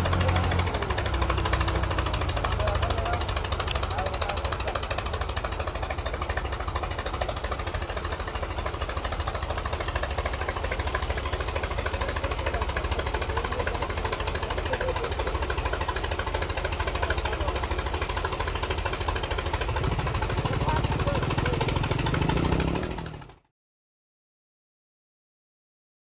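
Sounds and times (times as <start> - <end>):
diesel tractor engines labouring: 0.0 - 23.5.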